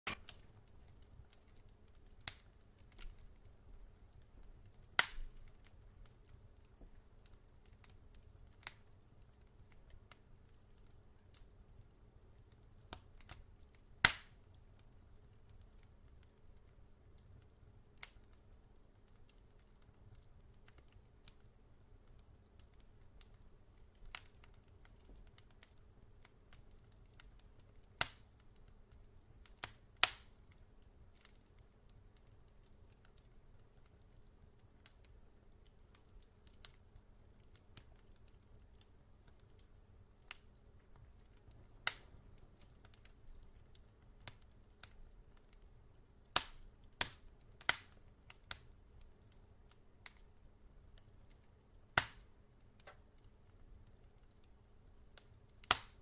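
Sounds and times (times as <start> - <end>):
log fire crackling and popping: 0.1 - 56.0.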